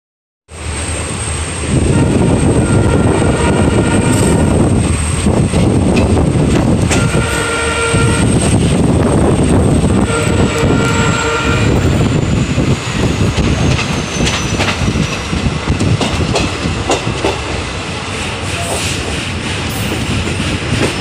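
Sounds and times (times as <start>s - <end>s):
train wheels rumbling on rail: 0.5s - 21.0s.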